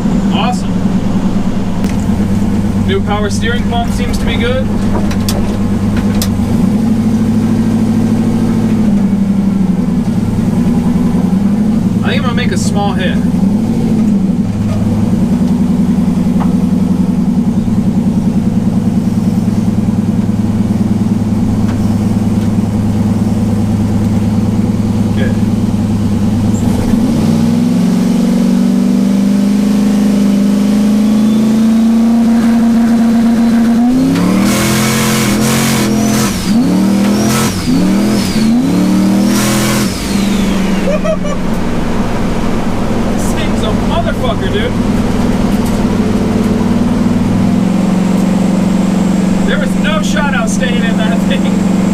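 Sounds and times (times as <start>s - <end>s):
pickup engine revving: 0.0s - 51.9s
turbo whine: 0.0s - 51.9s.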